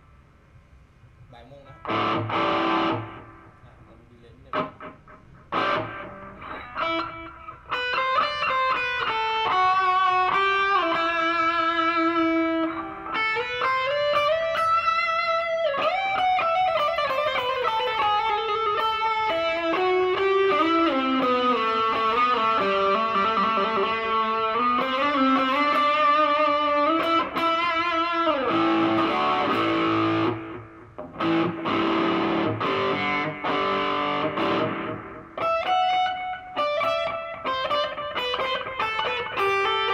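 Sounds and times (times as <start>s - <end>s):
electric guitar lead notes: 1.6s - 3.8s, 4.4s - 39.9s.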